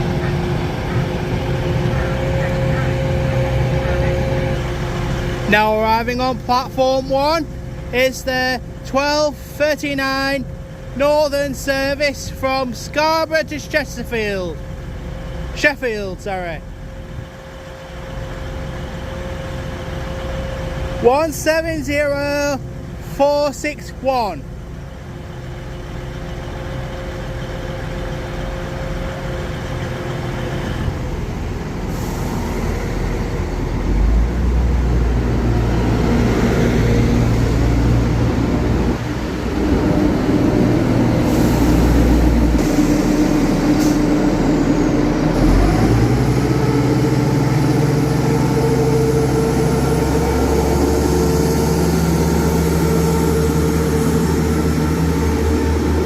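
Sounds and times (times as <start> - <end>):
train diesel engines running: 0.0 - 56.0.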